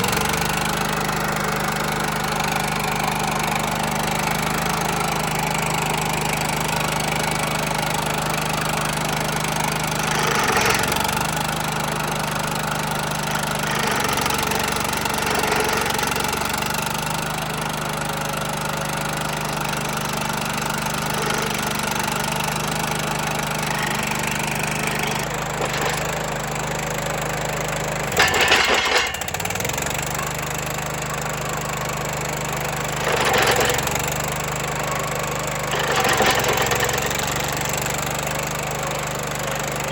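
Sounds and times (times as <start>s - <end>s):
stump grinder running: 0.0s - 39.9s.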